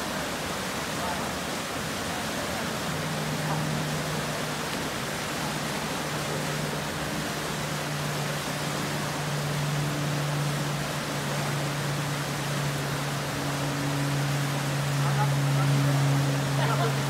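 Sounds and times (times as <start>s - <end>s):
whitewater rapids rushing: 0.0s - 17.0s.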